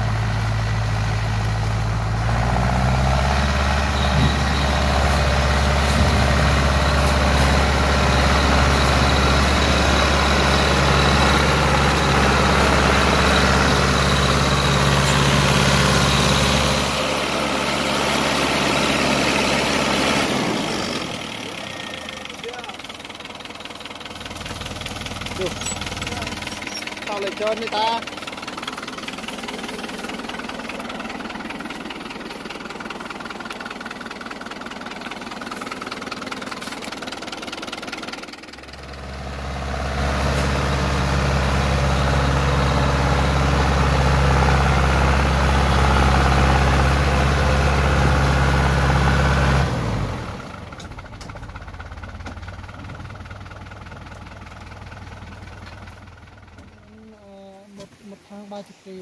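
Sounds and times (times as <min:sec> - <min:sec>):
tractor diesel engine revving: 0:00.0 - 0:57.2.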